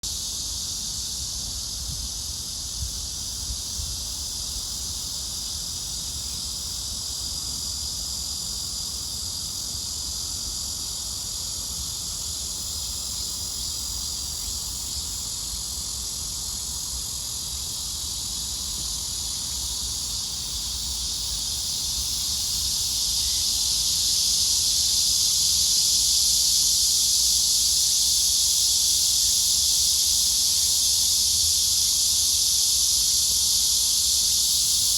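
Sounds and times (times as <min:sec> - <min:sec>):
cicadas buzzing drone: 0:00.0 - 0:34.9.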